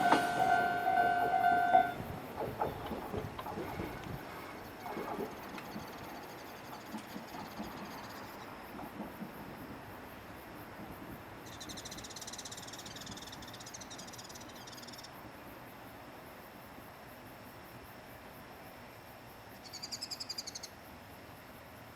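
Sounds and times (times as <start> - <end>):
faint outdoor background noise: 0.0 - 21.9.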